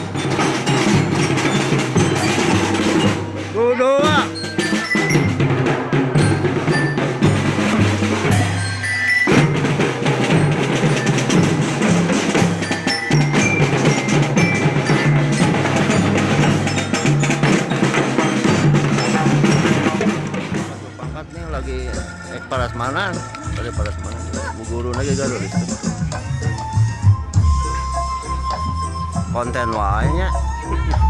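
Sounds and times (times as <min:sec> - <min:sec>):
marching band drums: 0:00.0 - 0:30.2
mallet bells melody: 0:00.0 - 0:31.0.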